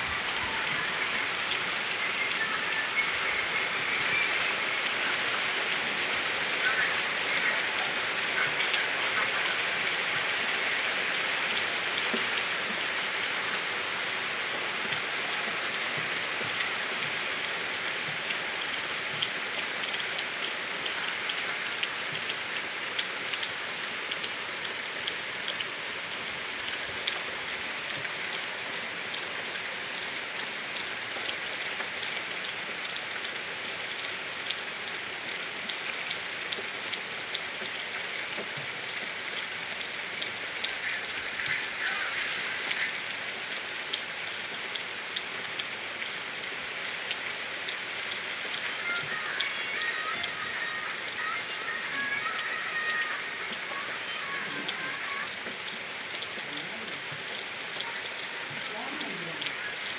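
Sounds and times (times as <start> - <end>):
heavy rain falling: 0.0 - 59.9
raindrops ticking on a surface: 0.0 - 59.9.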